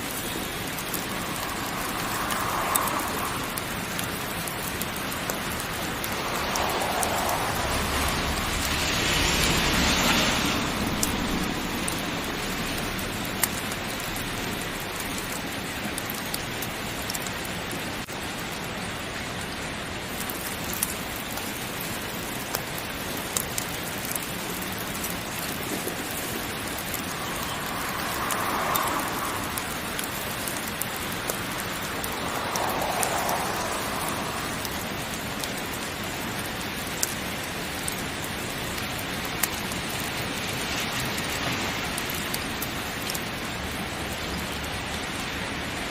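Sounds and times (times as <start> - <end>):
sharp ticks and pops: 0.0 - 9.6, 10.8 - 18.6, 20.1 - 43.6
heavy rain falling: 0.0 - 45.9.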